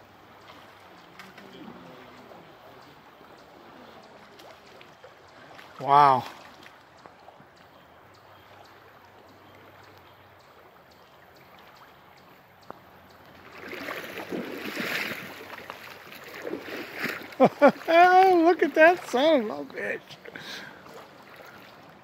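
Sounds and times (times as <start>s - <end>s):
creek water running: 0.0s - 22.0s
water splashing and sloshing: 0.0s - 22.0s.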